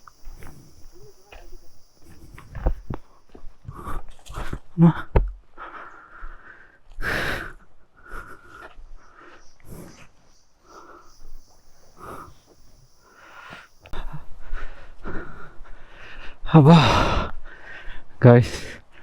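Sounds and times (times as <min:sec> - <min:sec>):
man breathing hard: 0:02.1 - 0:19.0.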